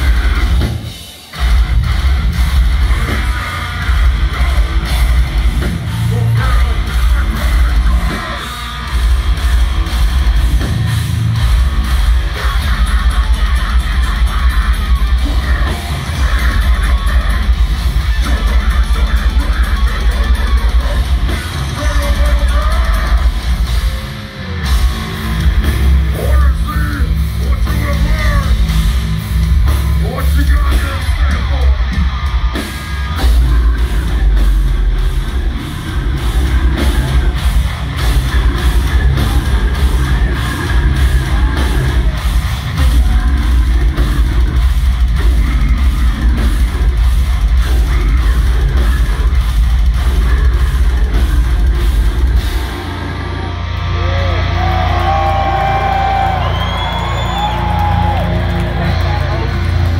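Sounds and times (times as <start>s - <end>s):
distorted guitars: 0.0s - 59.9s
drums: 0.0s - 59.9s
heavy bass: 0.0s - 59.9s.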